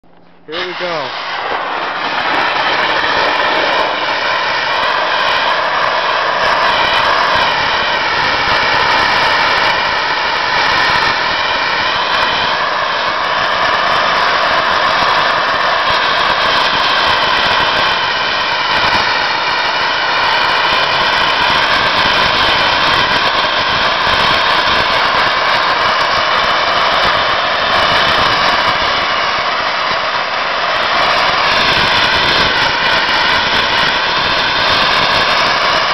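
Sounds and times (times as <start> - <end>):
sandblaster hissing: 0.4 - 35.9.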